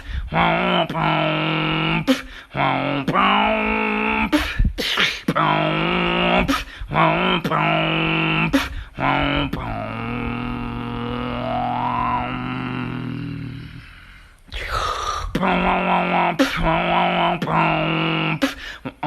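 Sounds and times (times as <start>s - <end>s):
beatboxing vocal bass notes: 0.0s - 19.0s.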